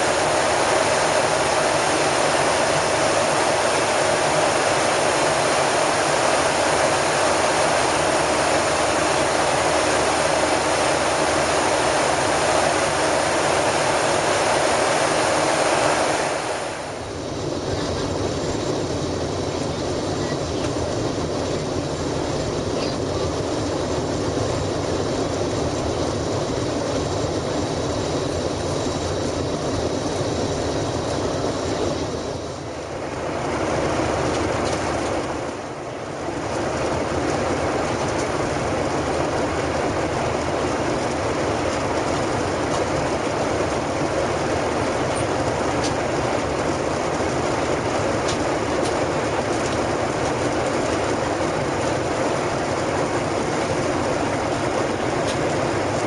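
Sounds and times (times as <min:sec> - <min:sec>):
airplane cabin noise: 0:00.0 - 0:56.0.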